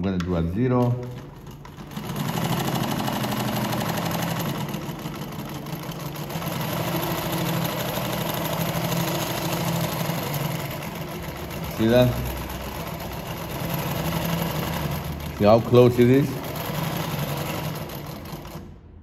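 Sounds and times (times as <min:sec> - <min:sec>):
sewing machine clattering: 0:00.0 - 0:18.9.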